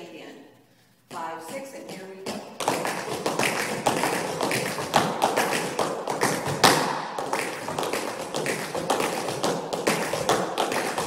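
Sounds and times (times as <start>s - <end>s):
heavy foot stamps: 1.1s - 11.0s
tap shoes tapping: 1.1s - 11.0s.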